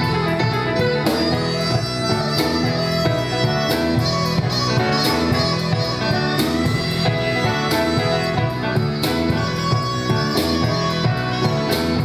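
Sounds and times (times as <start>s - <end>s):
drum kit with cymbal crashes: 0.0s - 12.0s
grand piano: 0.0s - 12.0s
woodwind melody: 0.0s - 12.0s.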